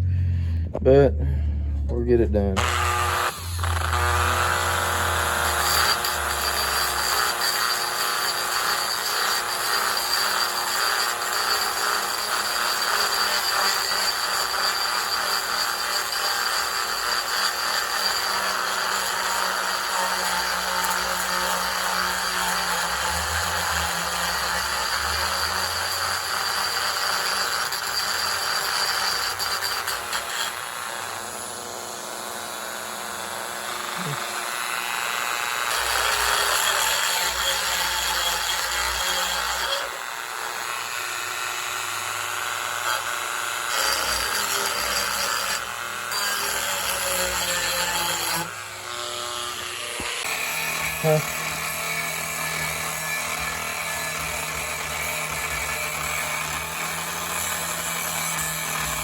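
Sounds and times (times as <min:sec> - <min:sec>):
power tool whining on wood: 0:02.1 - 0:59.0.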